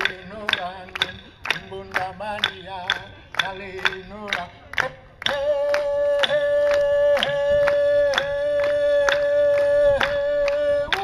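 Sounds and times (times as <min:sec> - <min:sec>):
sharp steady beats: 0:00.0 - 0:11.0.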